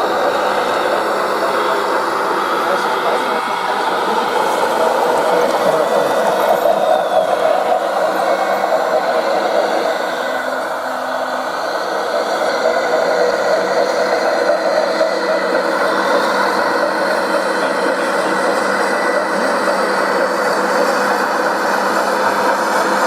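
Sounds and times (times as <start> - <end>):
model truck electric motor whir: 0.0 - 23.0.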